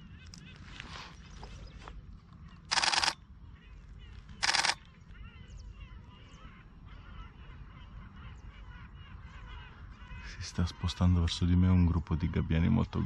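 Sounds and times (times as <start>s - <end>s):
gulls calling in the distance: 0.0s - 13.0s.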